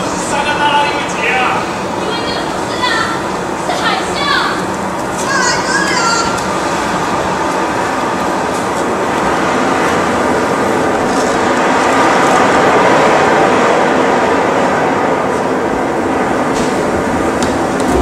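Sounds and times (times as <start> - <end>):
rushing roar of giant wave: 0.0 - 18.0.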